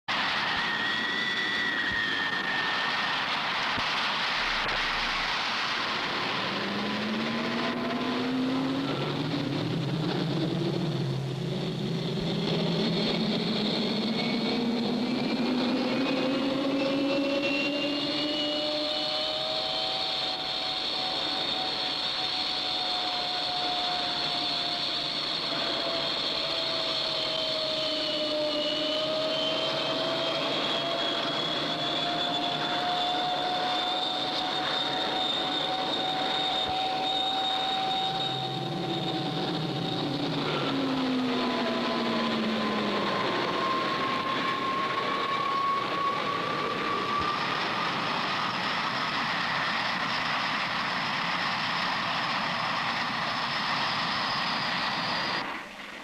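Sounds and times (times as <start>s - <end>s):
jet engine rushing and whining: 0.1s - 56.0s.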